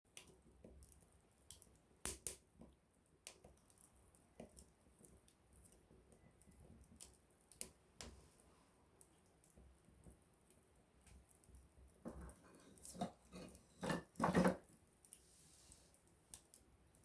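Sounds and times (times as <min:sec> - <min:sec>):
campfire crackling: 0:00.1 - 0:17.0.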